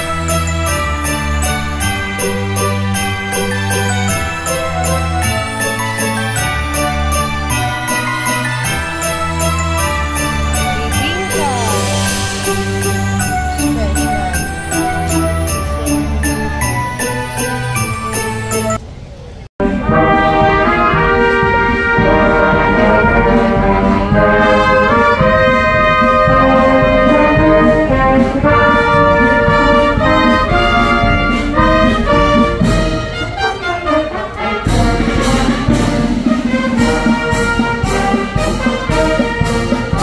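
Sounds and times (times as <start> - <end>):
brass band playing: 0.0 - 18.8, 19.6 - 40.0
percussion beat: 0.0 - 18.8, 19.9 - 33.7, 34.6 - 40.0.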